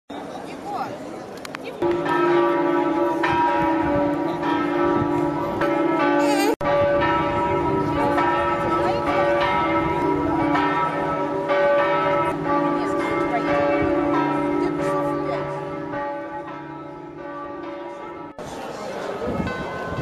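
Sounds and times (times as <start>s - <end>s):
church bells ringing: 1.8s - 20.0s.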